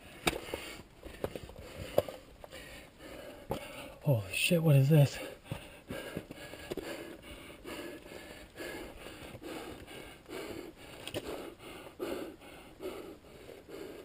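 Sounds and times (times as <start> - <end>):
heavy rhythmic breathing: 0.0 - 4.1, 5.0 - 14.0.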